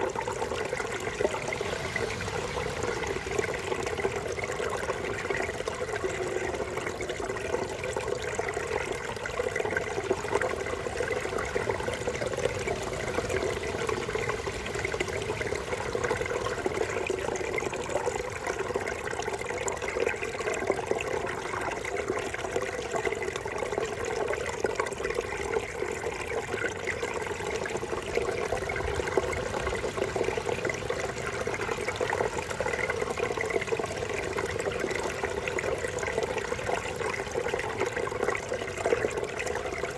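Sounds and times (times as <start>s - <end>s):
brook water burbling: 0.0s - 39.9s.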